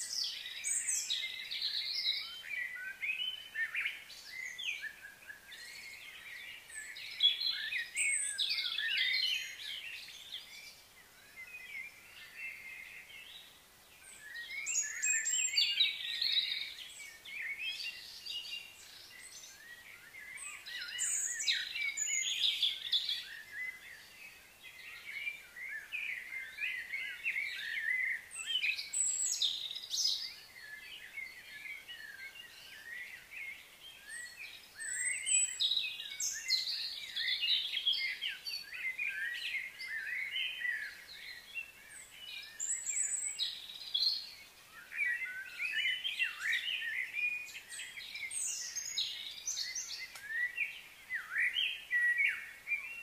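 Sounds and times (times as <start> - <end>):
birds twittering: 0.0 - 53.0.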